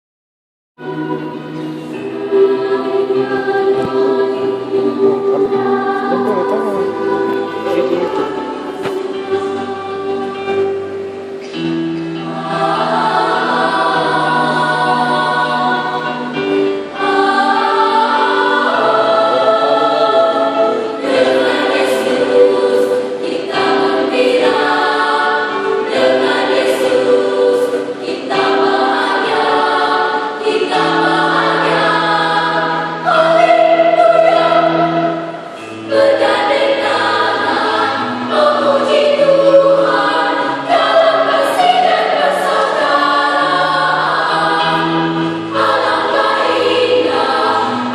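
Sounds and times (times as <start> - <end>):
children's choir singing: 0.8 - 47.9.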